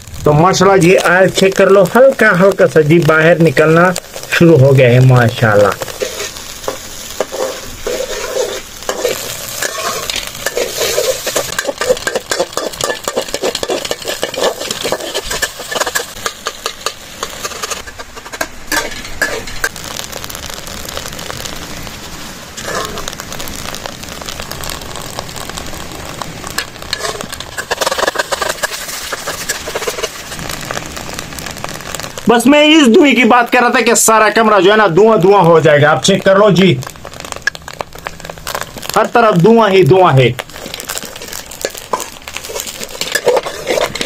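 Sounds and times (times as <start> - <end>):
egg yolks frying and crackling: 0.0 - 44.0.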